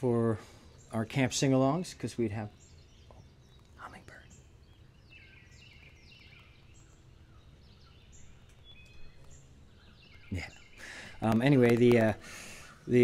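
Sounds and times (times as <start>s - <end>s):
low background noise: 0.0s - 13.0s
birds chirping and whistling: 0.2s - 13.0s.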